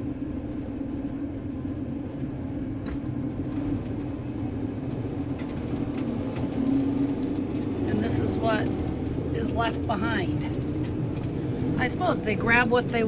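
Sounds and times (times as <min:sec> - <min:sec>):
engine and road noise: 0:00.0 - 0:13.0.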